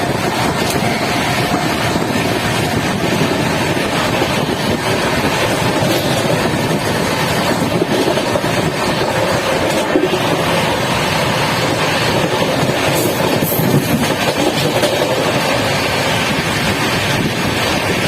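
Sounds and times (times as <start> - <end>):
train rushing at speed: 0.0 - 18.0
wind and storm noise: 0.0 - 18.0.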